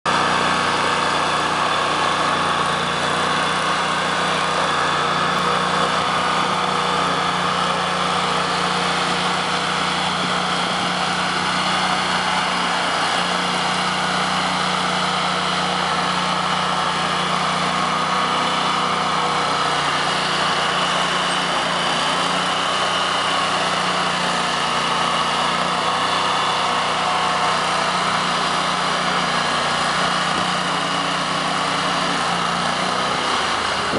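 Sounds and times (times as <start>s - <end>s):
stump grinder engine running: 0.1s - 33.9s.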